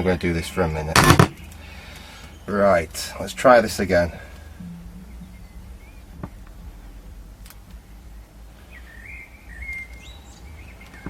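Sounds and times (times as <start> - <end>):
low steady hum: 0.0 - 11.0
faint bird chirping: 1.3 - 11.0.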